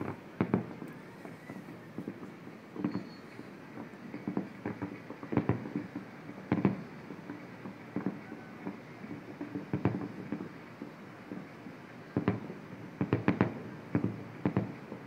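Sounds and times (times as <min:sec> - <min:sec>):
distant fireworks bangs: 0:00.0 - 0:15.0.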